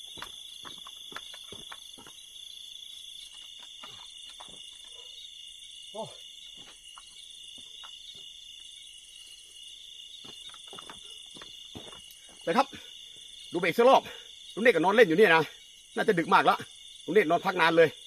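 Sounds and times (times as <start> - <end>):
crickets trilling: 0.0 - 18.0
higher pulsing insect trill: 0.0 - 18.0.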